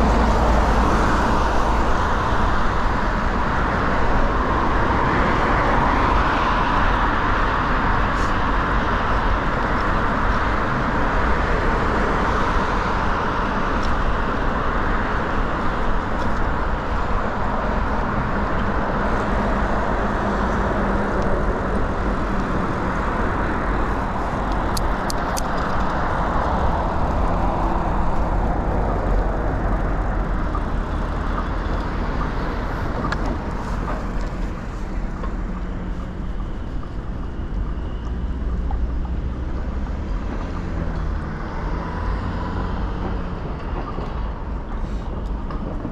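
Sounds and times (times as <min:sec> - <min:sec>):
road traffic: 0:00.0 - 0:45.9
wind rumbling on microphone: 0:00.0 - 0:45.9.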